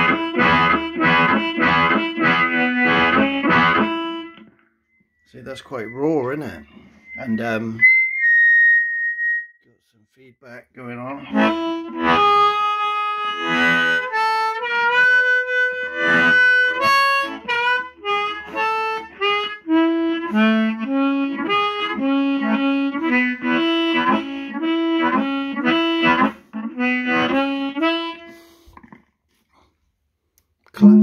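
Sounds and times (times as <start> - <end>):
amplified blues harmonica: 0.0 - 4.6, 5.3 - 9.5, 10.9 - 28.8.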